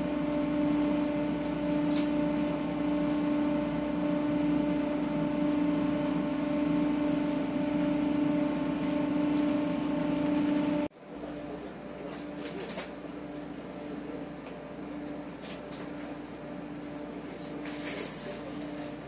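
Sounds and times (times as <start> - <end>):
machinery drone: 0.0 - 19.0.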